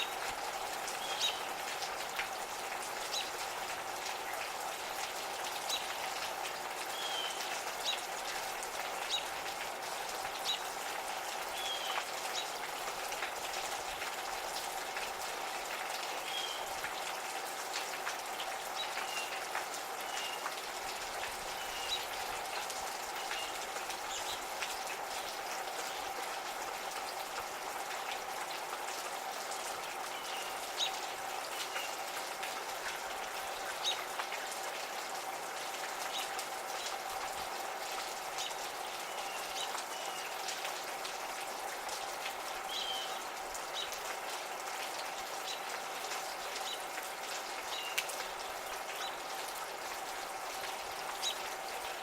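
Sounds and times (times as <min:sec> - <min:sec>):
gentle rain: 0:00.0 - 0:52.0
raindrops ticking on surfaces: 0:00.0 - 0:52.0.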